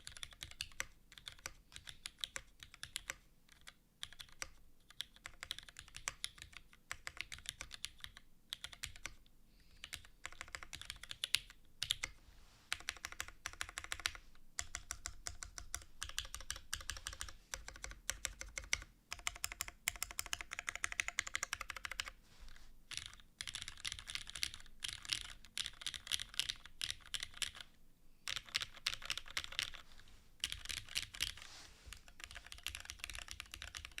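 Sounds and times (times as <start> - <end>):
mechanical keyboard typing: 0.0 - 9.2, 9.8 - 22.2, 22.9 - 29.8, 30.4 - 34.0.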